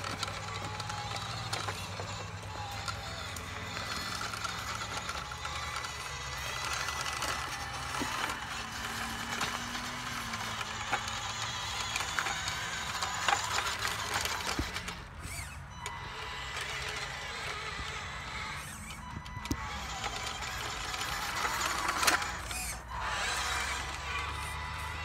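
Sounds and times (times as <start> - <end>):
electric motor whirring: 0.0 - 25.0
tyres clicking on grit: 0.0 - 25.0.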